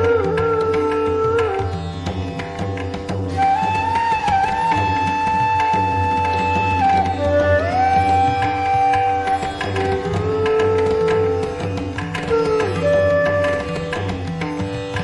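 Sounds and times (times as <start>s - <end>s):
sliding melody of held notes: 0.0s - 15.0s.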